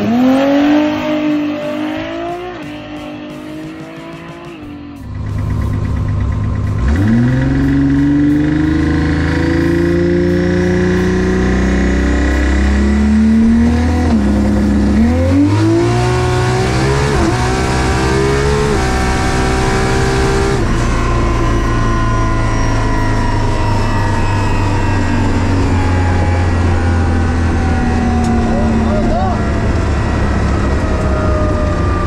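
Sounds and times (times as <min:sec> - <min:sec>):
car engine accelerating through gears: 0:00.0 - 0:32.0.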